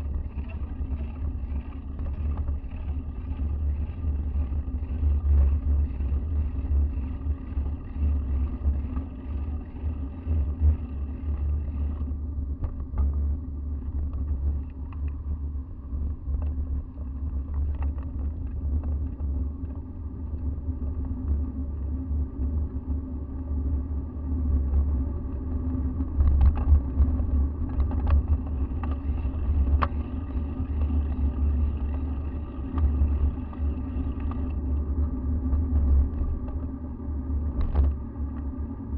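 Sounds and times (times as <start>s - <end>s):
wind and ride vibration rumble: 0.0s - 38.9s.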